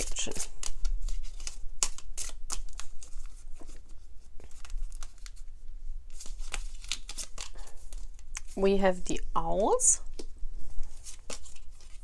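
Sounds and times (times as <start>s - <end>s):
cards being shuffled: 0.0s - 5.5s, 6.1s - 8.6s, 10.1s - 12.0s.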